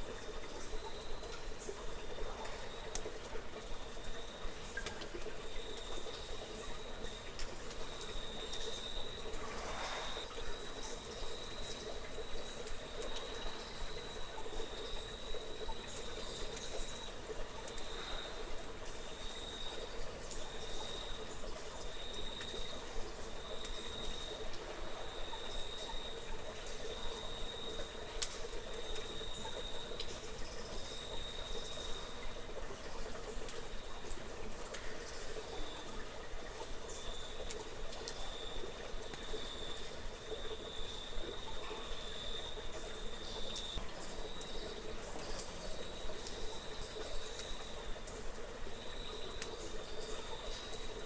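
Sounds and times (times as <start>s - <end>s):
crickets trilling: 0.0s - 51.0s
outdoor background hiss: 0.0s - 51.0s
water trickling: 0.0s - 51.0s.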